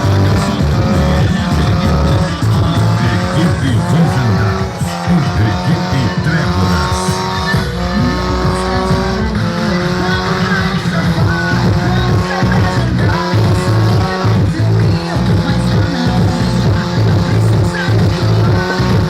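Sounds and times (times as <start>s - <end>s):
car engine revving: 0.0s - 19.0s
funk music with heavy bass: 0.0s - 19.0s.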